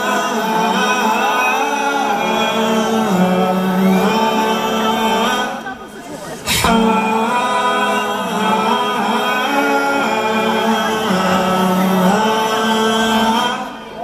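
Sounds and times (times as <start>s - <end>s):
voices singing in close harmony: 0.0s - 14.0s.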